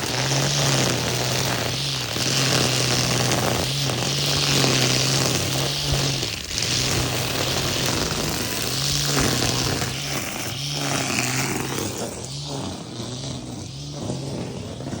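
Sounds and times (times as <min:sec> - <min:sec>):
cutting head slashing grass: 0:00.0 - 0:13.2
brush cutter motor hum: 0:00.0 - 0:15.0.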